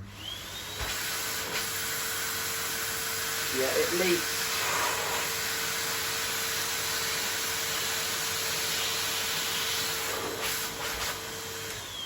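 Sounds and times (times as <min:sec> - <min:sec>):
vacuum blower air rush and whine: 0:00.0 - 0:12.0.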